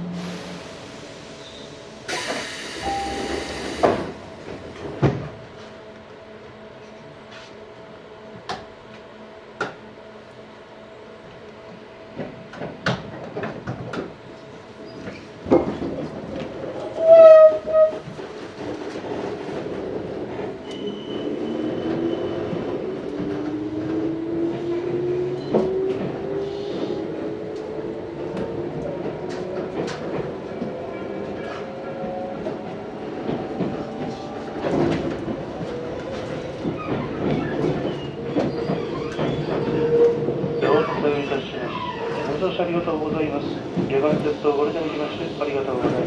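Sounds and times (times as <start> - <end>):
train running noise: 0.0 - 46.0
rail joint clicks: 2.1 - 6.1, 11.3 - 31.7, 32.3 - 46.0.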